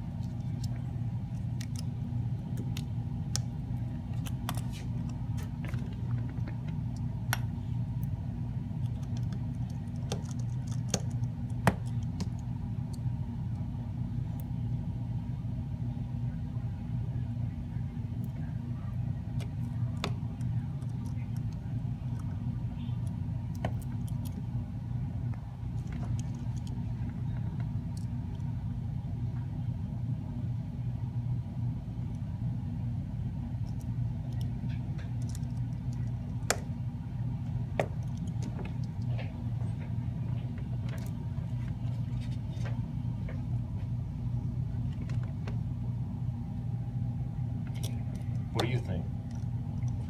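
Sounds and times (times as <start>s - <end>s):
low background hum: 0.0s - 50.0s.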